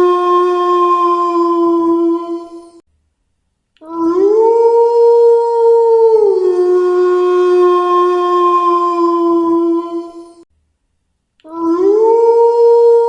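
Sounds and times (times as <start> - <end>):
wolf howling: 0.0 - 2.8, 3.8 - 10.4, 11.5 - 13.0.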